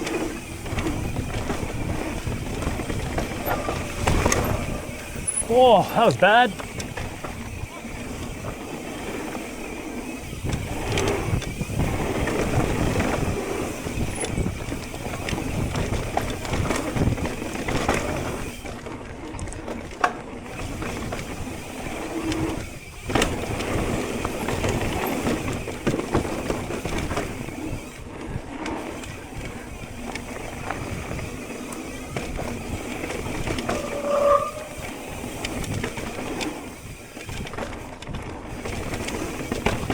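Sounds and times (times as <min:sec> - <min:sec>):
bike rattling over bumps: 0:00.0 - 0:39.9
tyre and trail noise: 0:00.0 - 0:39.9.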